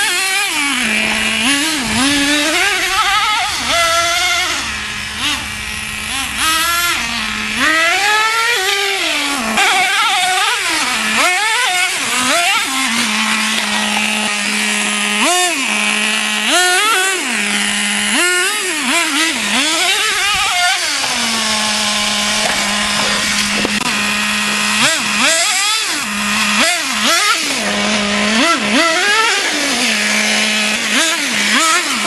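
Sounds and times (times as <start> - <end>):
small engine revving and idling: 0.0 - 32.0.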